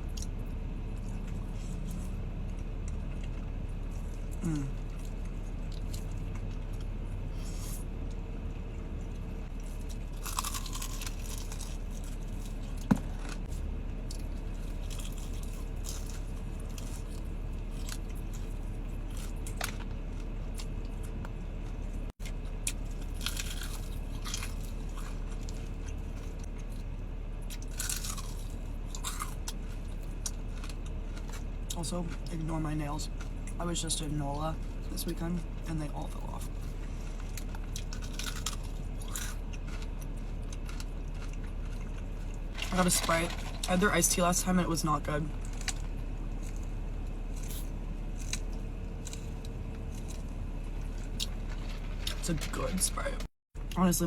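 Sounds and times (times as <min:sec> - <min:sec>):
chewing crispy fried chicken: 0:00.0 - 0:53.8
steady low hum: 0:00.0 - 0:54.0.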